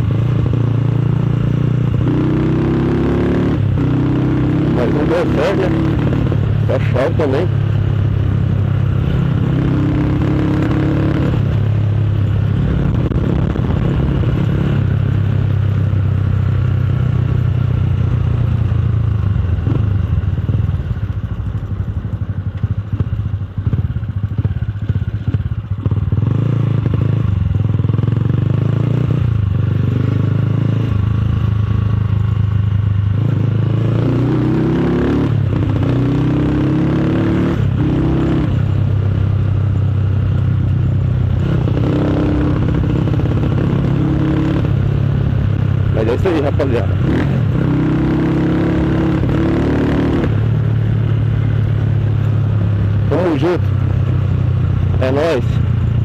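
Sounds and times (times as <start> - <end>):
motorcycle with loud exhaust: 0.0 - 56.0.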